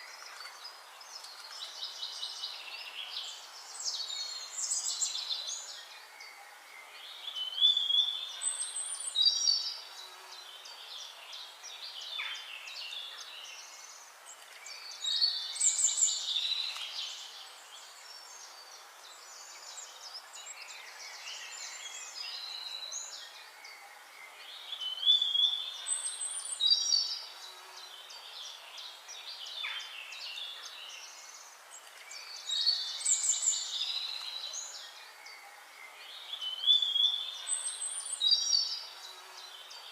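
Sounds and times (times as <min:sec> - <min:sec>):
faint steady hiss: 0:00.0 - 0:39.9
songbirds chirping and trilling: 0:00.0 - 0:39.9.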